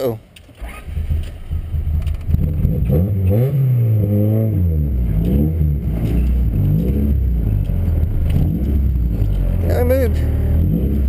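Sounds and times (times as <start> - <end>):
race car engine revving: 0.6 - 11.0.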